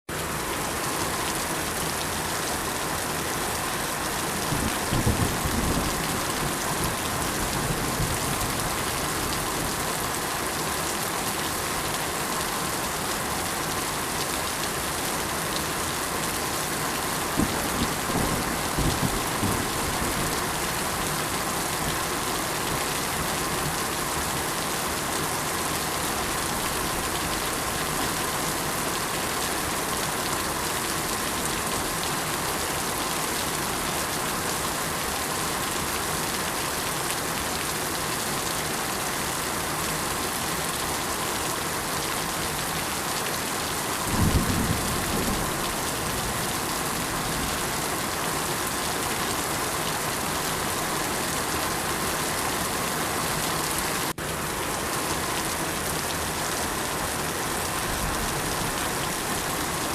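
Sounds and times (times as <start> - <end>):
heavy rain pattering: 0.1 - 59.9.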